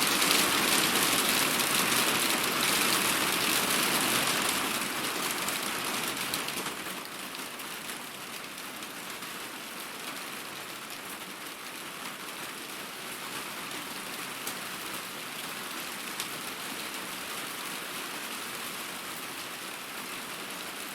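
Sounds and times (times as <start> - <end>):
heavy rain: 0.0 - 20.9.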